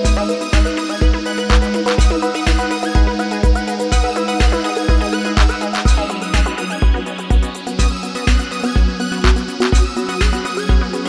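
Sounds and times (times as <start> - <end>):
kick drum: 0.0 - 11.0
synth melody: 0.0 - 11.0.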